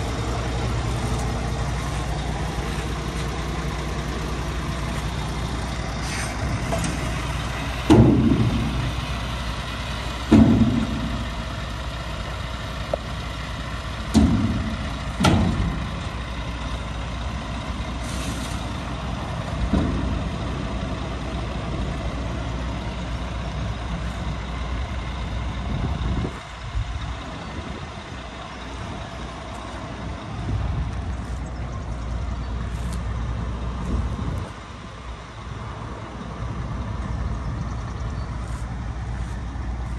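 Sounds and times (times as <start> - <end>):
diesel truck engine hum: 0.0 - 39.9.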